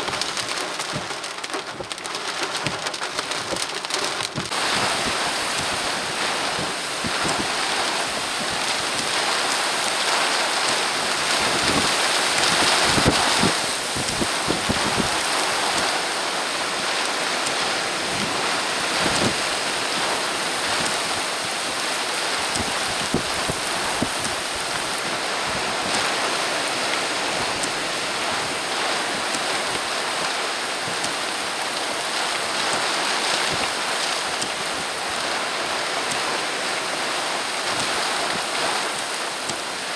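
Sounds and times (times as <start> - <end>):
rain pouring down: 0.0 - 39.9
wind: 0.0 - 39.9.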